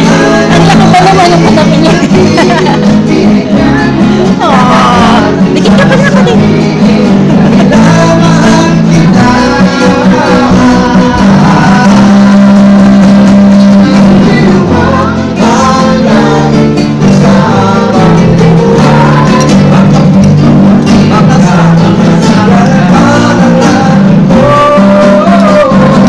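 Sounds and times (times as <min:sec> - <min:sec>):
group singing: 0:00.0 - 0:26.0
strummed acoustic guitar: 0:00.0 - 0:26.0.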